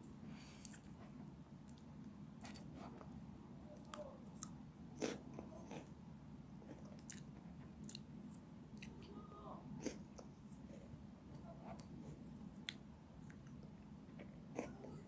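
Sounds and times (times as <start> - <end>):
cookies being chewed: 0.4 - 9.1, 9.8 - 15.0.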